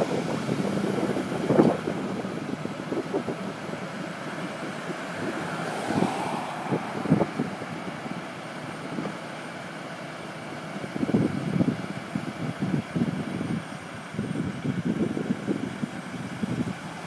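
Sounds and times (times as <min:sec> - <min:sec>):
wind on microphone: 0:00.0 - 0:08.2, 0:10.8 - 0:17.0
vehicle engine running: 0:00.0 - 0:17.0.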